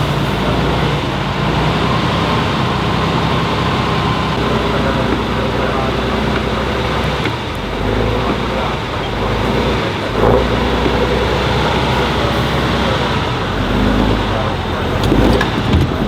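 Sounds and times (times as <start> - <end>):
diesel truck engine labouring: 0.0 - 16.0.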